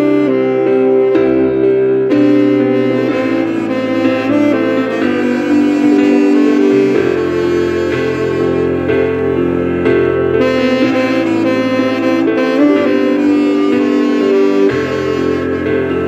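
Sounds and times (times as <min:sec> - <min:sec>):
tenor saxophone melody: 0:00.0 - 0:16.0.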